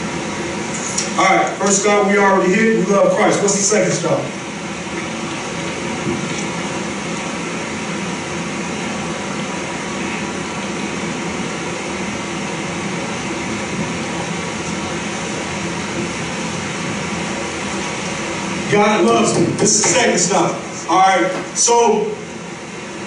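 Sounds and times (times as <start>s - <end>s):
faint hum: 0.0s - 23.0s
room noise hiss: 0.0s - 23.0s.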